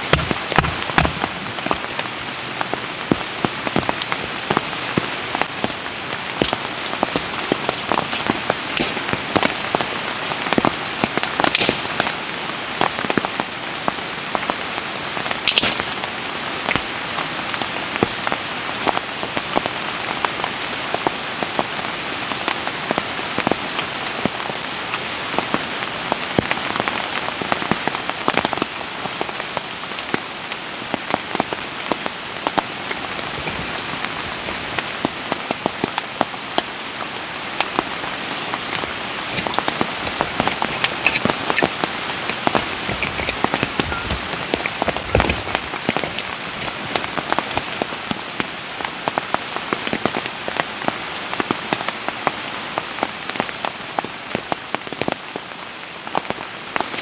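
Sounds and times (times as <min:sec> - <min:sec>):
rain drops pattering on a surface: 0:00.0 - 0:57.0.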